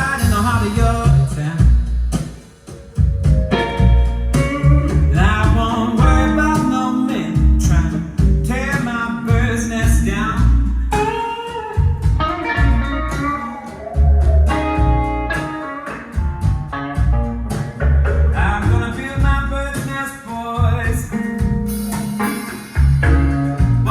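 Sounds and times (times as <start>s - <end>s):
bass line: 0.0s - 15.5s, 16.1s - 19.9s, 20.6s - 23.9s
blues guitar music: 0.0s - 23.9s.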